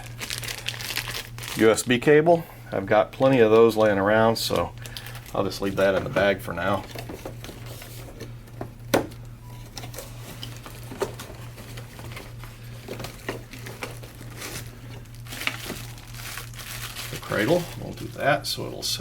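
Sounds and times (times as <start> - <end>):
packaging rustling: 0.0 - 2.0, 2.8 - 19.0
steady low hum: 0.0 - 19.0.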